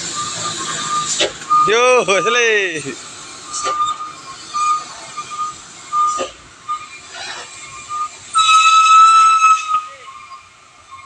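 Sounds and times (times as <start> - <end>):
high whistle tone: 0.1 - 2.5, 3.4 - 11.0.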